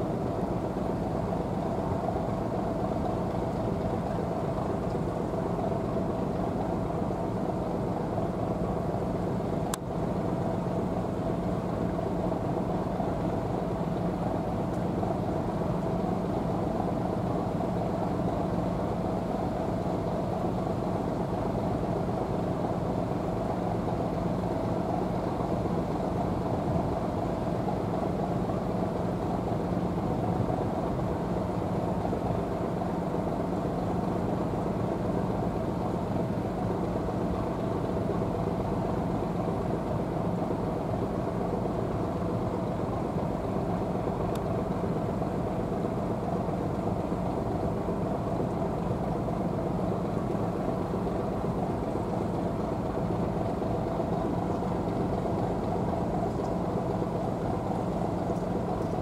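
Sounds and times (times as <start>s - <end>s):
engine idling drone: 0.0s - 59.0s.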